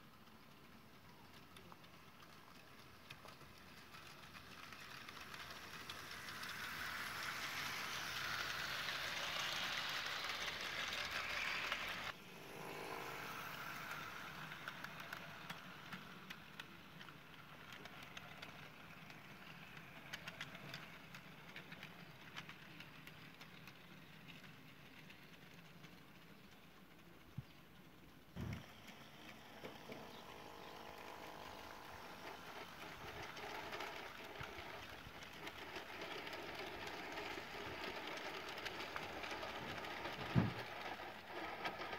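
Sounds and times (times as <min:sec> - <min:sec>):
wheels clicking over rail joints: 0:00.0 - 0:41.9
wheels rattling on rails: 0:00.0 - 0:41.9
model train motor whirring: 0:00.1 - 0:41.9.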